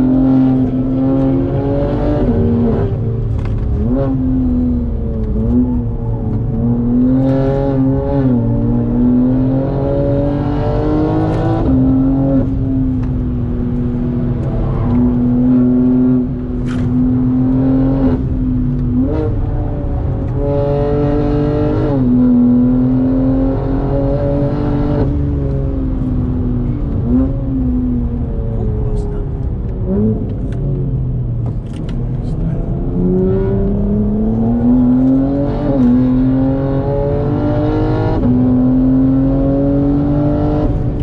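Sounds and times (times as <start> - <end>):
car engine at high revs: 0.0 - 41.0
road and wind noise: 0.0 - 41.0.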